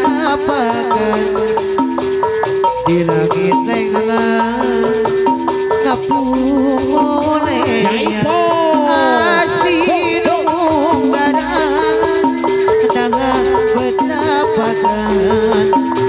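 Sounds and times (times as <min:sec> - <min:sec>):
hand drumming: 0:00.0 - 0:16.0
metallophones two-note pattern: 0:00.0 - 0:16.0
wavering sliding melody: 0:00.0 - 0:16.0.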